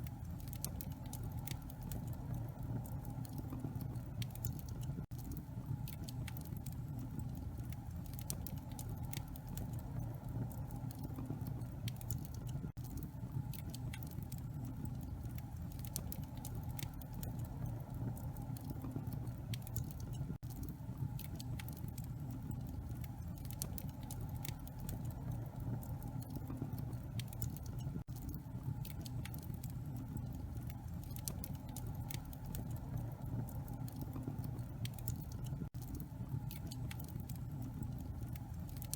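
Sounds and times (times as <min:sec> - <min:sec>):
fire flames rumbling: 0:00.0 - 0:38.9
logs crackling and popping: 0:00.0 - 0:38.9.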